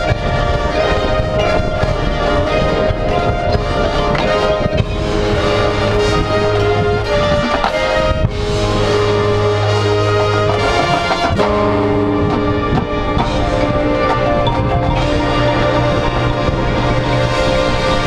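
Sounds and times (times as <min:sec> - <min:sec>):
marching band playing: 0:00.0 - 0:18.0
percussion strokes: 0:00.0 - 0:18.0.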